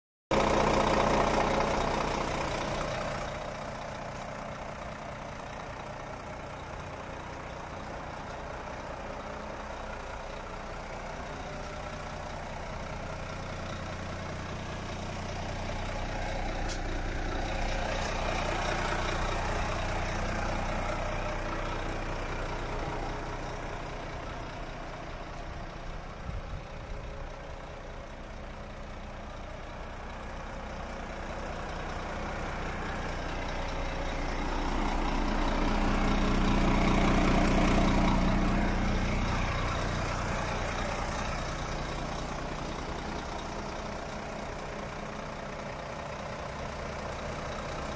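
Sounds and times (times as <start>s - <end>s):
diesel truck engine idling: 0.3s - 47.9s.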